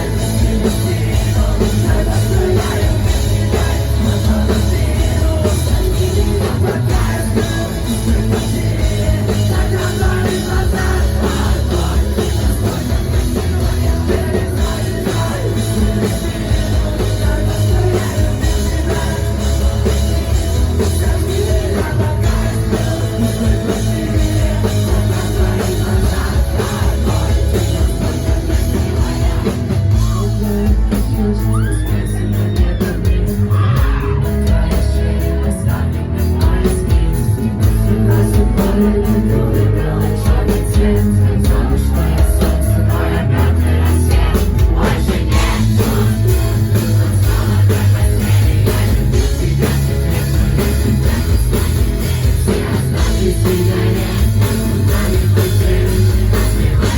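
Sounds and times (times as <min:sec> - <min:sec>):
person singing: 0:00.0 - 0:56.9
rock band playing: 0:00.0 - 0:56.9.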